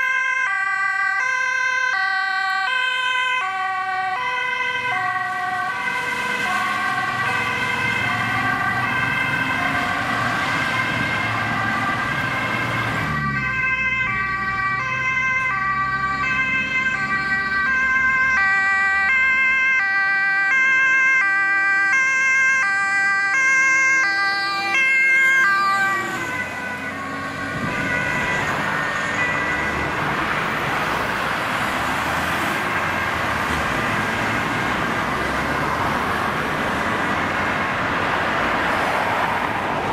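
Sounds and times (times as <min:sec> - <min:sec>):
ambulance two-tone siren: 0:00.0 - 0:38.0, 0:38.6 - 0:39.9
fire engine running: 0:00.0 - 0:39.9
fire engine two-tone siren: 0:00.0 - 0:39.9
road traffic rush: 0:00.0 - 0:39.9.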